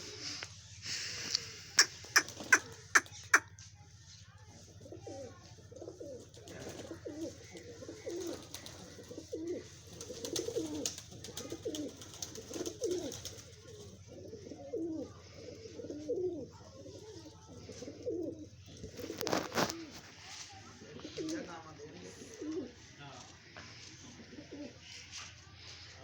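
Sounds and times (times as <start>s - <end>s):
pigeons cooing: 1.0s - 3.6s, 4.6s - 22.9s, 23.9s - 25.1s.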